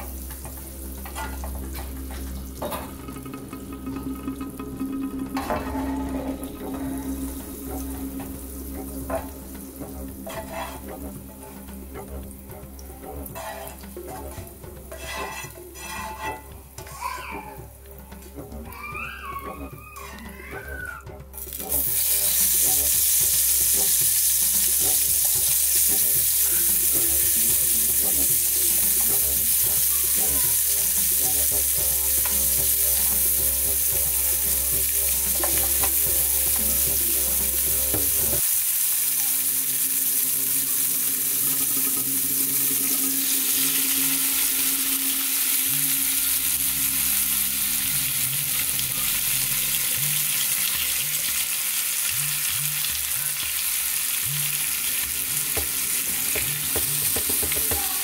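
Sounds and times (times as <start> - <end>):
vegetables sizzling in hot oil: 0.0 - 17.5, 21.4 - 58.0.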